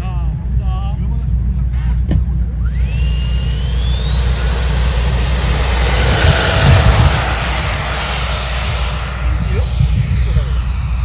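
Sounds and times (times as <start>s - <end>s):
electric ducted fan jet whine: 0.0s - 11.0s.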